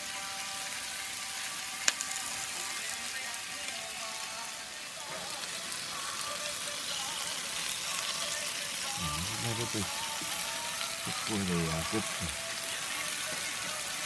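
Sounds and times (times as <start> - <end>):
meat sizzling on griddle: 0.0 - 14.0.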